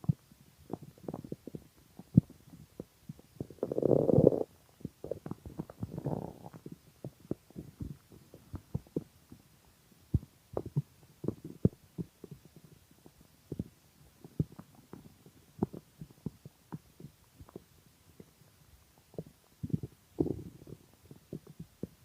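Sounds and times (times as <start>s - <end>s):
stomach gurgling: 0.0s - 9.5s, 10.1s - 18.4s, 19.0s - 22.0s.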